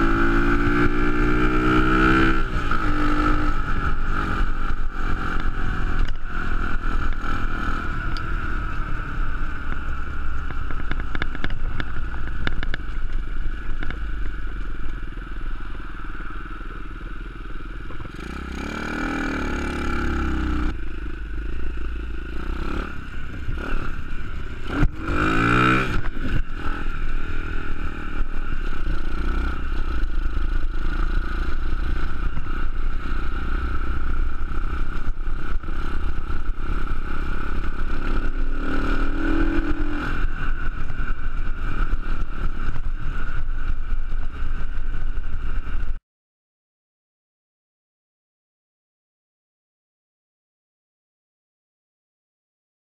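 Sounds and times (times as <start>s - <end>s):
wind noise: 0.0s - 16.5s, 19.8s - 46.0s
motorbike engine running: 0.0s - 46.0s.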